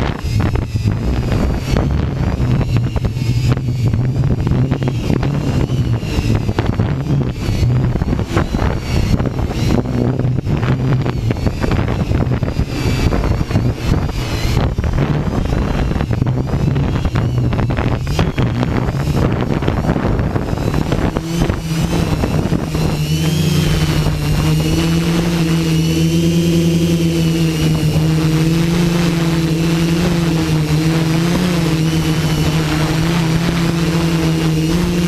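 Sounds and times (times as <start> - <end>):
drone motors whining: 0.0 - 35.0
wind buffeting microphone: 0.0 - 35.0.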